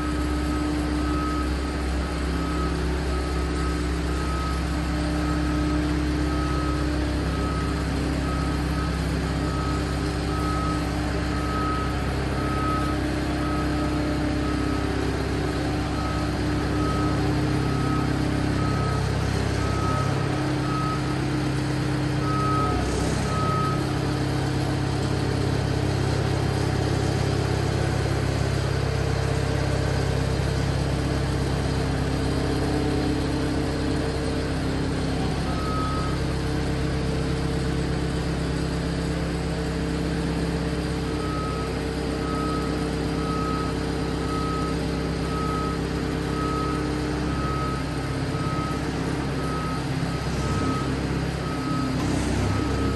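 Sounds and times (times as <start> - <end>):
trailer engine running: 0.0 - 52.9.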